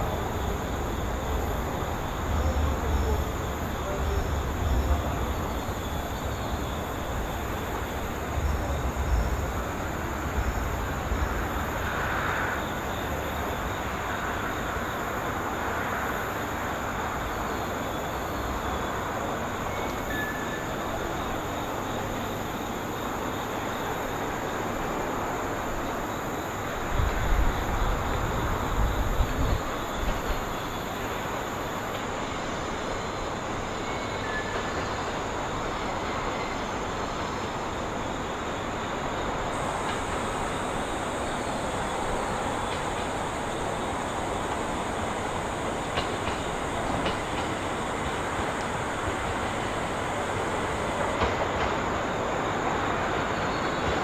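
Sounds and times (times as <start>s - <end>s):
passenger train rumbling: 0.0s - 54.0s.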